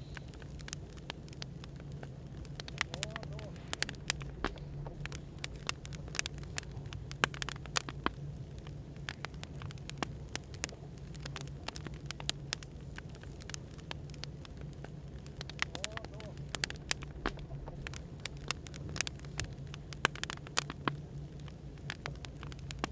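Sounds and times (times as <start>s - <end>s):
cafe background noise: 0.0s - 22.9s
firewood crackling and popping: 0.0s - 22.9s.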